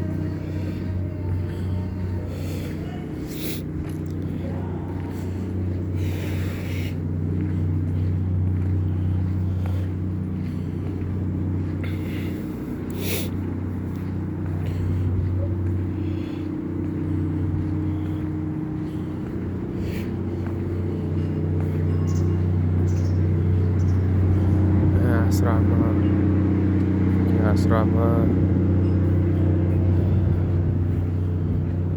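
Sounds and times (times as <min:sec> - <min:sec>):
engine humming: 0:00.0 - 0:31.9.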